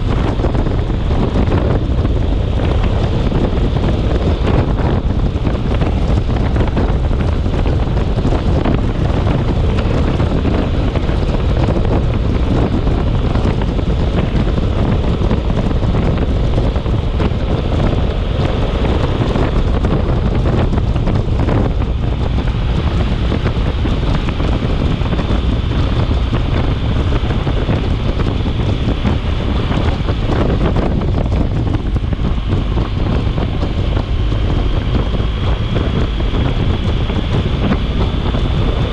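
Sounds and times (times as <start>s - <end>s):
storm wind on microphone: 0.0s - 38.9s.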